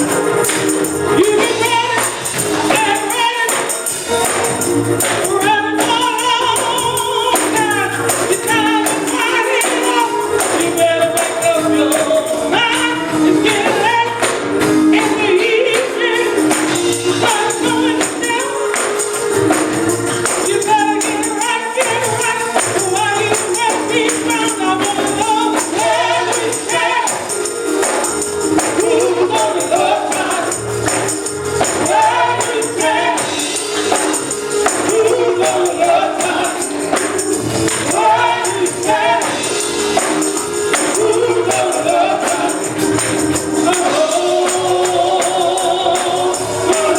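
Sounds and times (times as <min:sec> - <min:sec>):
group of voices singing gospel: 0:00.0 - 0:46.9
tambourine shaken in a beat: 0:00.0 - 0:46.9.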